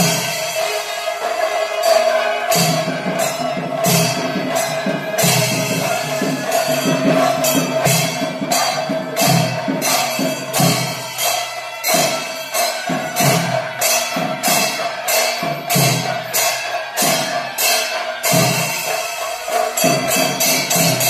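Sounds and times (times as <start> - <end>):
cymbal strokes: 0.0 - 21.0
drum beats: 0.0 - 21.0.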